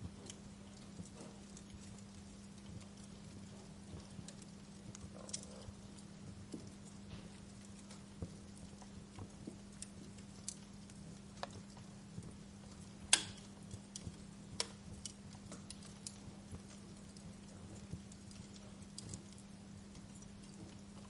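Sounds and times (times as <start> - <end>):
faint low hum: 0.0 - 21.0
wood fire crackling: 0.0 - 21.0.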